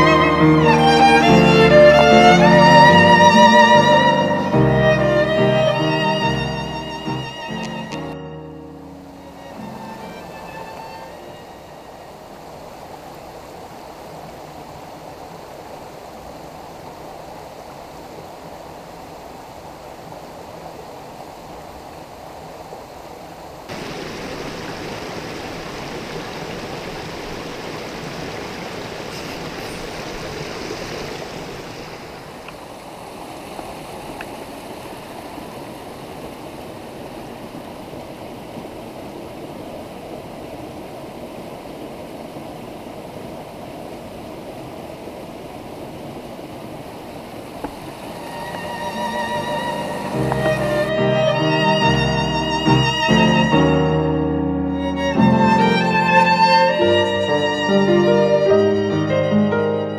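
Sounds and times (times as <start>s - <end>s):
stream rushing over stones: 0.0s - 54.0s, 54.8s - 59.2s.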